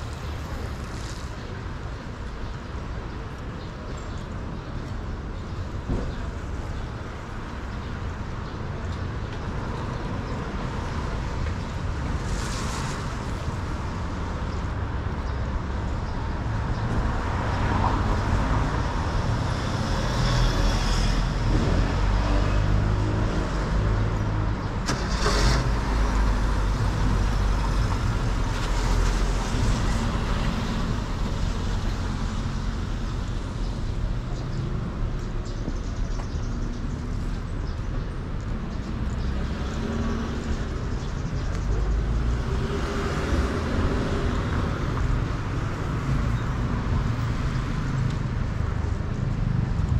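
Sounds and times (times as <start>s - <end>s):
traffic passing: 0.0s - 49.9s.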